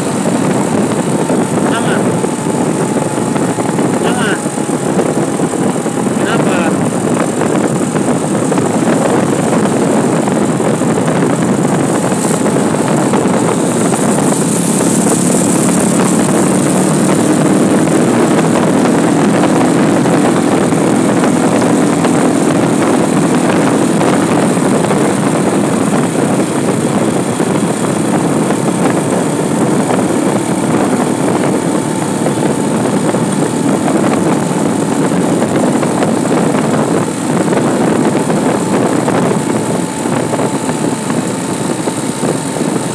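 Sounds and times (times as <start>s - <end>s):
vehicle engine drone: 0.0s - 42.9s
wind on microphone: 0.0s - 42.9s.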